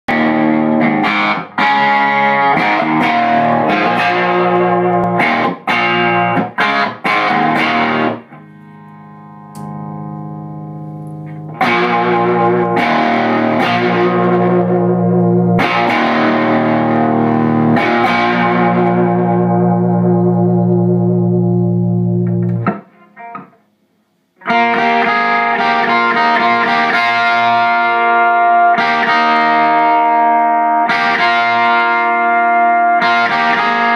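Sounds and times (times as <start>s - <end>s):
electric guitar chords: 0.1s - 23.8s, 24.4s - 33.9s.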